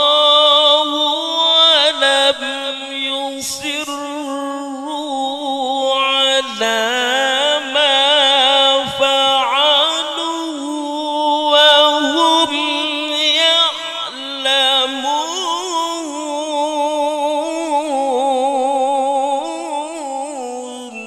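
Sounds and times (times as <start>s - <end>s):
man chanting through a microphone: 0.0s - 21.0s.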